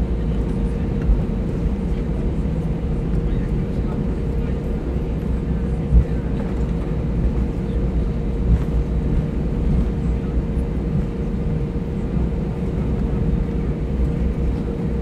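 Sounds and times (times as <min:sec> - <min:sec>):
low rumble of aircraft taxiing: 0:00.0 - 0:15.0.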